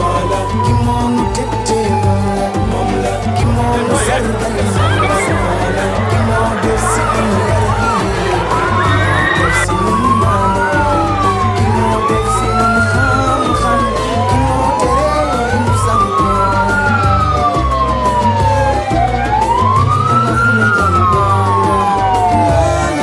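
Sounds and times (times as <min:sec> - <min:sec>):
low steady drone: 0:00.0 - 0:19.4
sirens wailing: 0:00.0 - 0:23.0.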